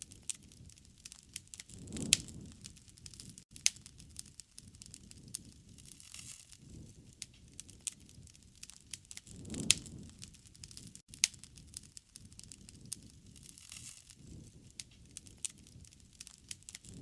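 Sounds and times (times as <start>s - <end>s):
campfire crackling: 0.0s - 17.0s
sharp pops and snaps of fire: 0.0s - 17.0s.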